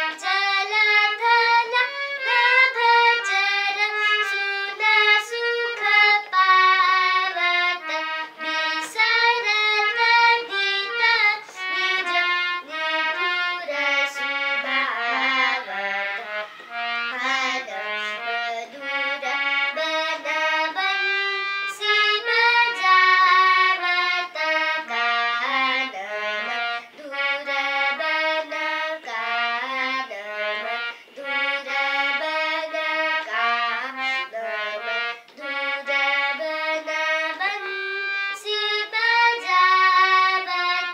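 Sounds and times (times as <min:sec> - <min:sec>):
free-reed instrument melody: 0:00.0 - 0:40.9.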